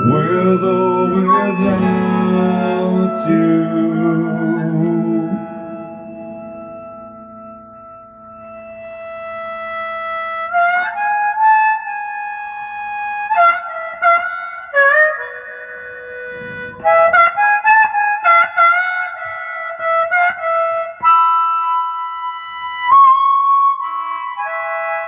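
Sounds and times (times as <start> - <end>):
instrumental melody with sliding notes: 0.0 - 25.0.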